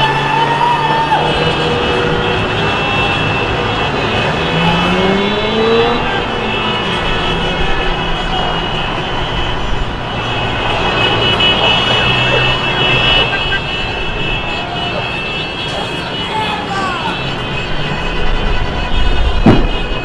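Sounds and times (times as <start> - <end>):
car engines running: 0.0 - 20.0
car horns held: 0.0 - 20.0
dense street noise: 0.0 - 20.0.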